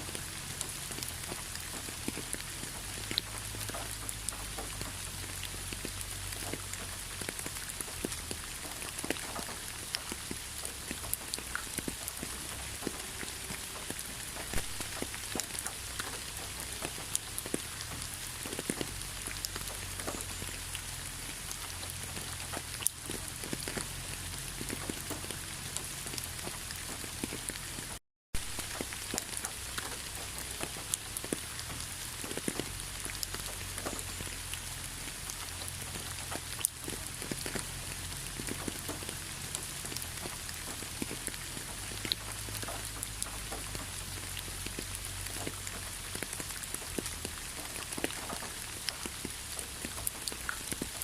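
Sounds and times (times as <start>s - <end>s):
raindrops ticking on a surface: 0.0s - 51.0s
steady rain falling: 0.0s - 51.0s.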